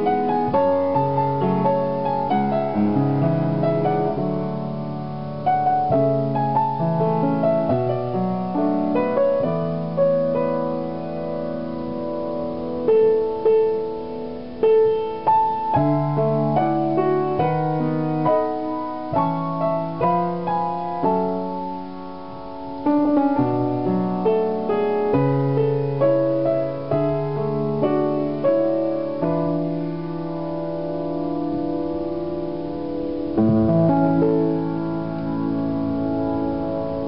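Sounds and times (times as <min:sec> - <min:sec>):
slow piano ballad: 0:00.0 - 0:37.0.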